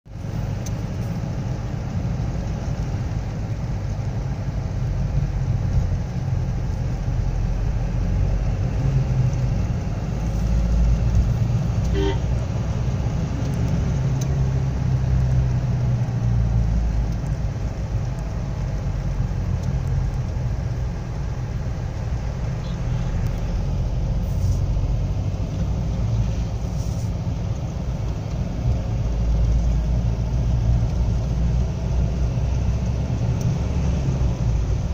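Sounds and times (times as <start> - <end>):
vehicle engine and tyre rumble: 0.0 - 34.9.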